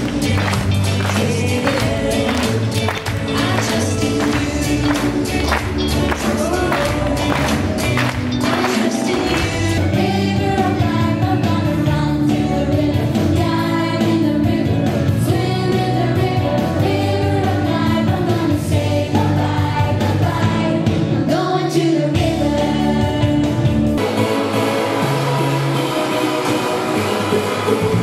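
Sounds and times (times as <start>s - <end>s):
children's choir singing: 0.0s - 23.4s, 24.0s - 28.0s.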